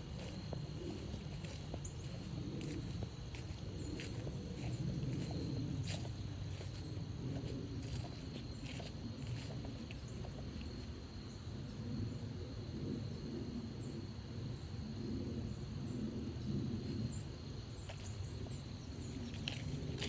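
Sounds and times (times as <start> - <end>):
steady low rumble: 0.0 - 11.3, 14.5 - 20.0.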